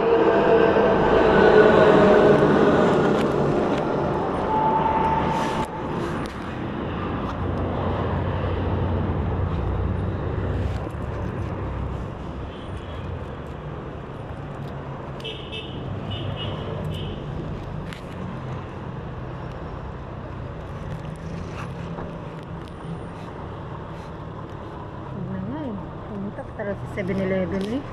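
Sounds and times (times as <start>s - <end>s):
road traffic noise: 0.0s - 27.9s
vehicle engine hum: 0.0s - 27.9s.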